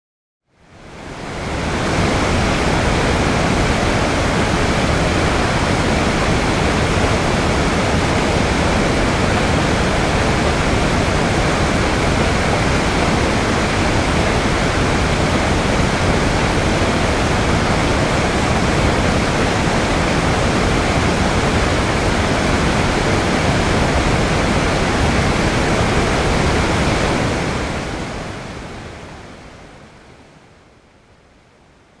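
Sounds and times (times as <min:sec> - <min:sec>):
waterfall rushing: 0:00.8 - 0:29.9.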